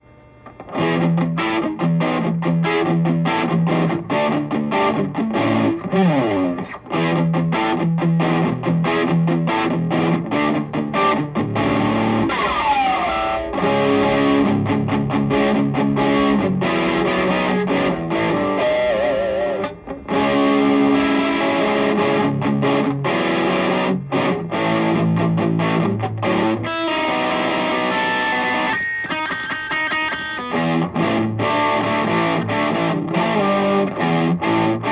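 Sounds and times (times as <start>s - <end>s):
distorted electric guitar riff: 0.0s - 34.9s.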